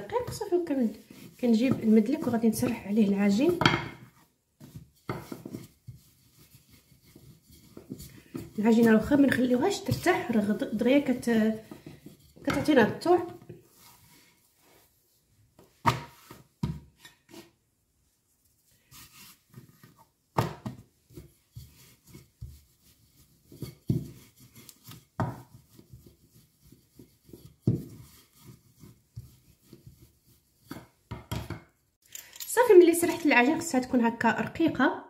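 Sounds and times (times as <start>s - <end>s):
rolling pin rubbing over dough: 0.0s - 17.6s, 18.4s - 31.2s.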